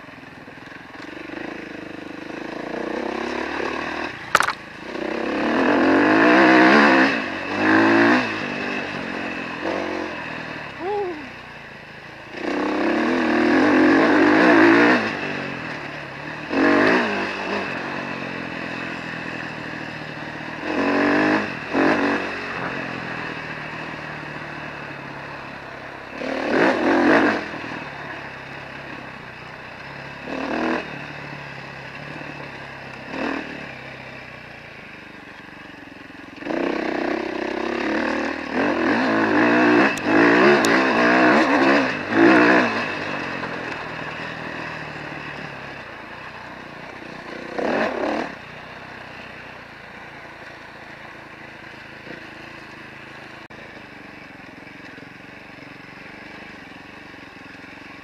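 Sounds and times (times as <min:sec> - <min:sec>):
off-road vehicle engine revving: 0:00.9 - 0:11.5, 0:12.2 - 0:58.0.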